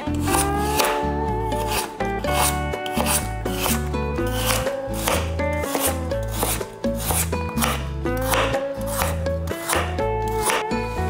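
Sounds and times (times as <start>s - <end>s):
knife slicing carrot on board: 0.0s - 10.8s
background music with bass: 0.0s - 11.0s.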